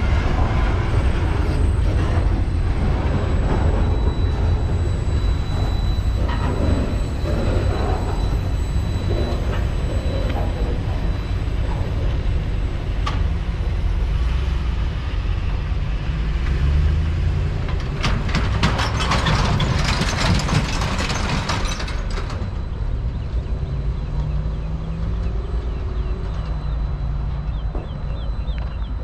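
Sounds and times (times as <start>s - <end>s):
freight train rumbling on rails: 0.0s - 29.0s
trailer rattling over rail crossing: 0.0s - 29.0s.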